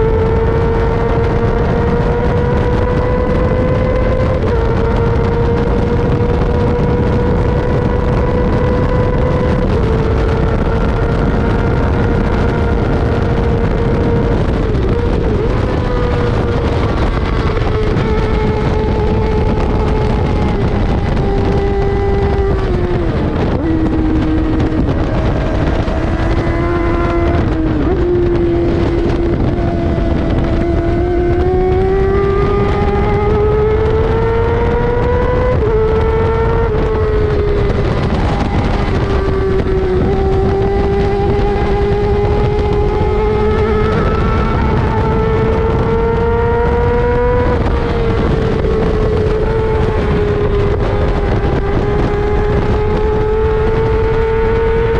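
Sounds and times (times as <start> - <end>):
sportbike engine revving: 0.0 - 54.9
steady rushing noise: 0.0 - 54.9.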